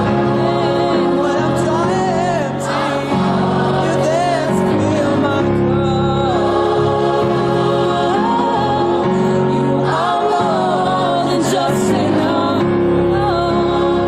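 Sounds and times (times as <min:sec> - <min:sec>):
gospel song with vibrato voices: 0:00.0 - 0:14.0
held instrumental chords: 0:00.0 - 0:14.0.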